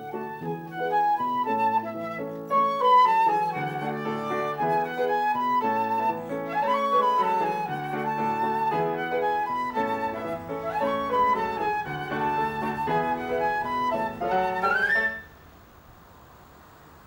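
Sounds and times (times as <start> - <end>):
flute melody: 0.0 - 15.4
lower accompanying notes: 0.0 - 15.4.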